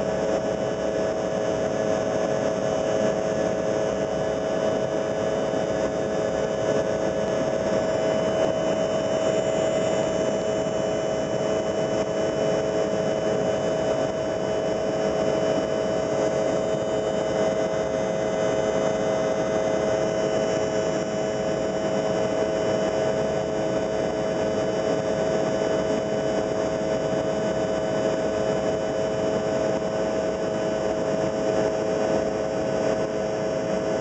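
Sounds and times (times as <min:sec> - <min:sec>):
constant humming tone: 0:00.0 - 0:34.0
jet engine and airflow noise: 0:00.0 - 0:34.0.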